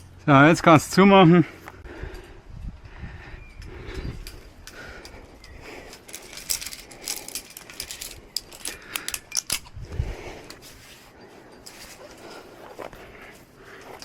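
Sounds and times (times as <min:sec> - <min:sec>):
metal climbing gear clinking: 0:02.0 - 0:14.0.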